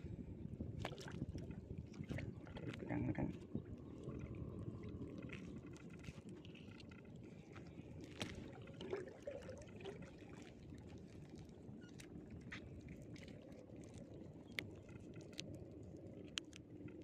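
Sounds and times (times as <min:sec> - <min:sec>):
water trickling and splashing: 0:00.5 - 0:17.0.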